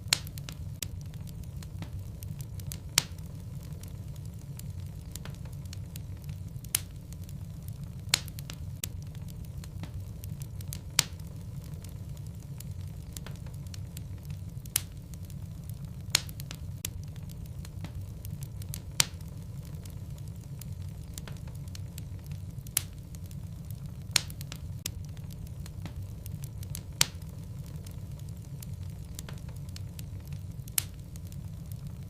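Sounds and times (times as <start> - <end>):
fire rumbling and crackling: 0.0 - 32.0.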